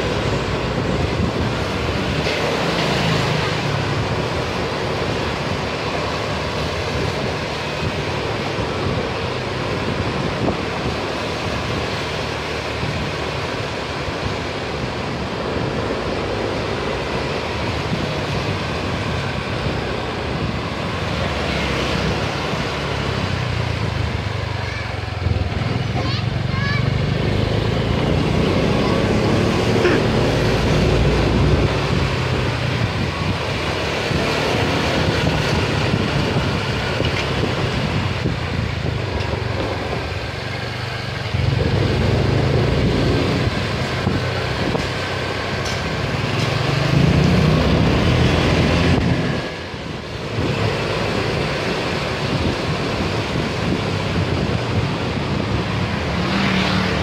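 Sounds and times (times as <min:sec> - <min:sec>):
road noise: 0:00.0 - 0:57.0
wind noise: 0:00.0 - 0:57.0.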